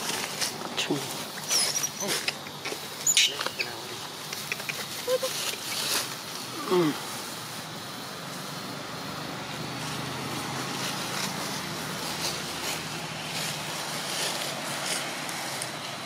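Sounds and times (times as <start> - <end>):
light crackles: 0.0 - 16.0.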